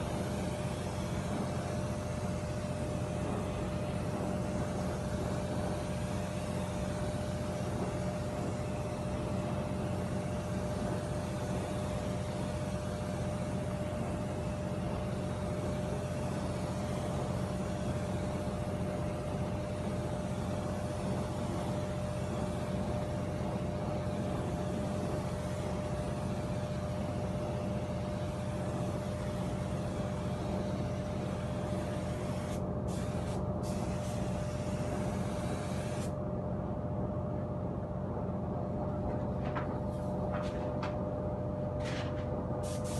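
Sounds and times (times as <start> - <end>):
mechanical hum: 0.0 - 42.9.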